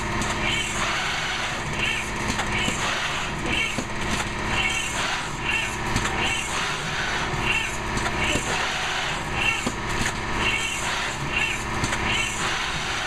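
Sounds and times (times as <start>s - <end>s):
repeating higher-pitched machine sound: 0.0s - 13.0s.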